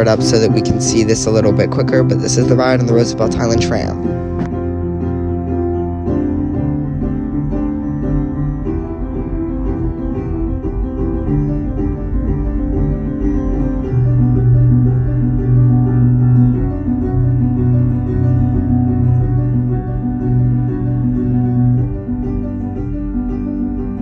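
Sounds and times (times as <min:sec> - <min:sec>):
instrumental background music: 0:00.0 - 0:24.0.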